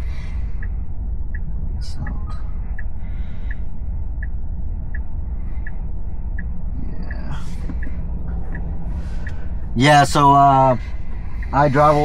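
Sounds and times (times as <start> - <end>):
low cabin hum: 0.0 - 12.0
turn signal ticking: 0.0 - 12.0.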